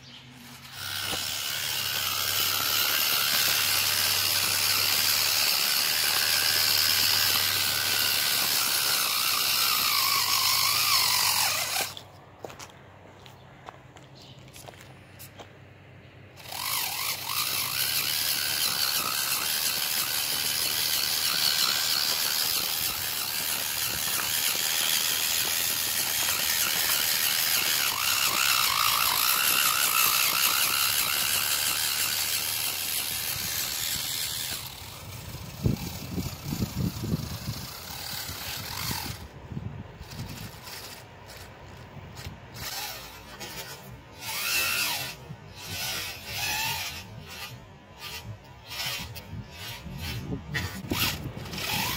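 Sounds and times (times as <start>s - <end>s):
toy truck motor whining: 0.0s - 12.6s, 16.2s - 51.9s.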